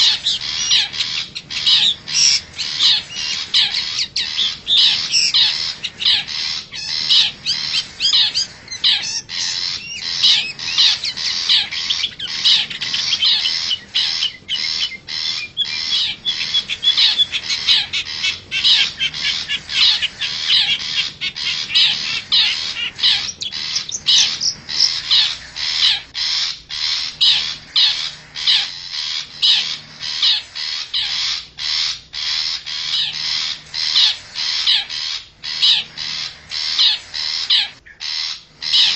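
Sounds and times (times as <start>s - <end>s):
shrike harsh scratchy calls: 0.0s - 38.9s.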